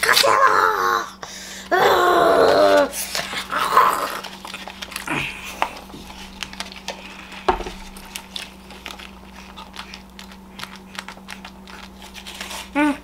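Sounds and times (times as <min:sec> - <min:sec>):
faint steady hum: 0:00.0 - 0:13.0
paper wrapper crinkling: 0:02.4 - 0:13.0.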